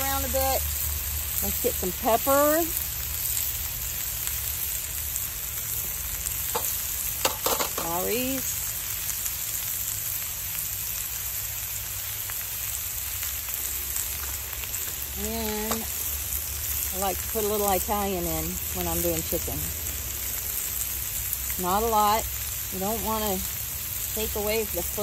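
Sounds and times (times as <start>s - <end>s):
food sizzling in a skillet: 0.0s - 25.0s.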